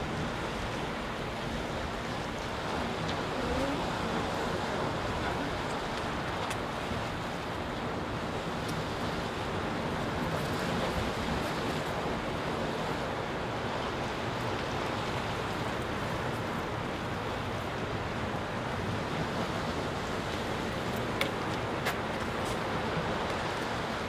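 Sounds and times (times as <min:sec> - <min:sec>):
sea surf on rocky shore: 0:00.0 - 0:24.0.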